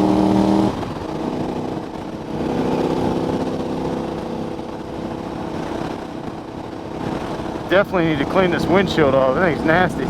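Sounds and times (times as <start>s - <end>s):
motorcycle engine running: 0.0s - 10.0s
wind rush: 0.0s - 10.0s.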